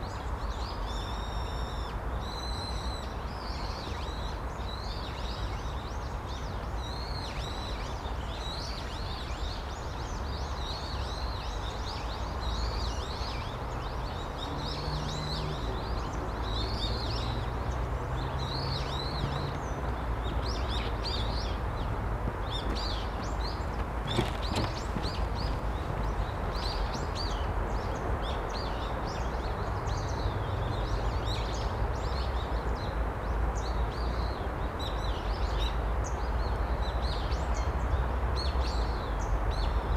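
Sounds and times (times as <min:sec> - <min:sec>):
small songbirds chirping: 0:00.1 - 0:39.9.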